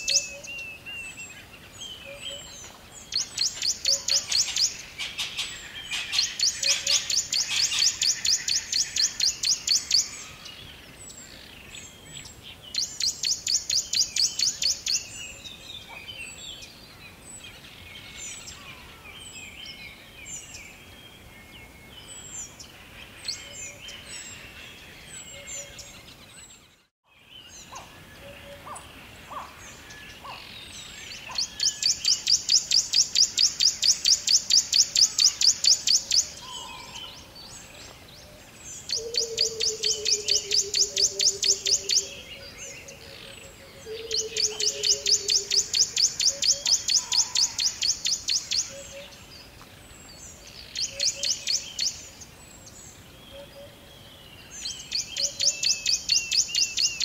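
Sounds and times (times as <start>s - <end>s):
forest birds chirping: 0.0s - 57.0s.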